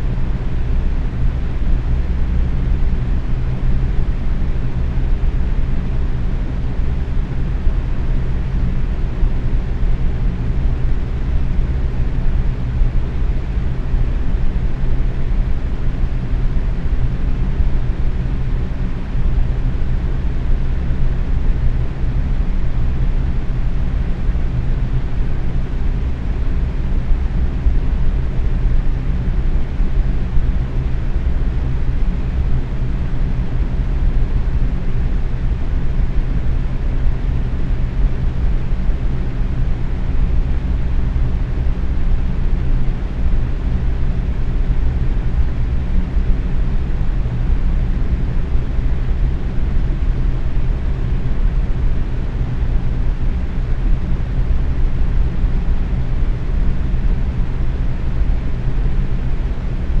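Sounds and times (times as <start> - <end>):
faint fan hum: 0.0 - 60.0
fan air whoosh: 0.0 - 60.0.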